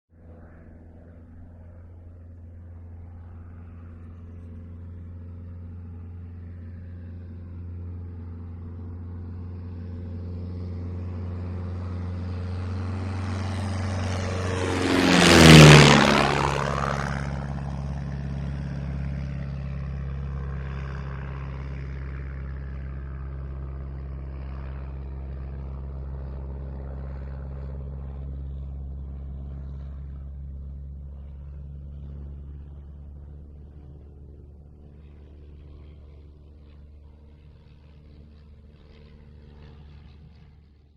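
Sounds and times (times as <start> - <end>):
propeller plane flying by: 0.1 - 40.9.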